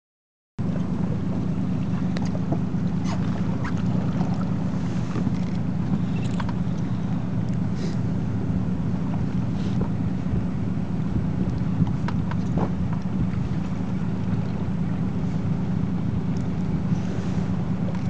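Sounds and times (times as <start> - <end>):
boat engine humming: 0.6 - 18.0.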